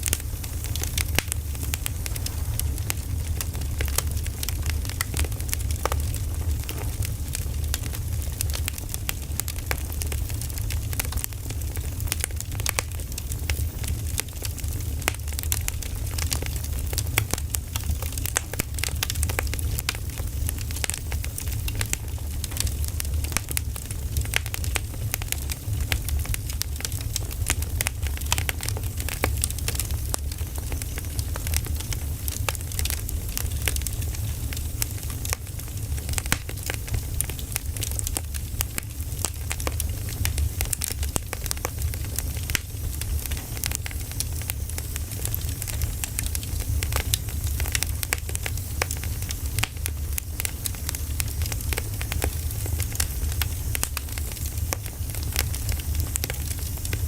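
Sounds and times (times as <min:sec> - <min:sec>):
firewood crackling: 0:00.0 - 0:57.0
low steady fire rumble: 0:00.0 - 0:57.0.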